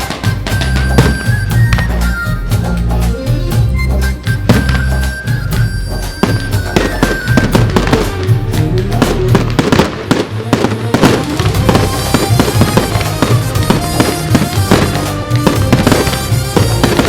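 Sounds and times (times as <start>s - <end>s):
fireworks bangs and crackles: 0.0s - 2.3s, 4.2s - 17.0s
loud music with steady bass: 0.0s - 17.0s.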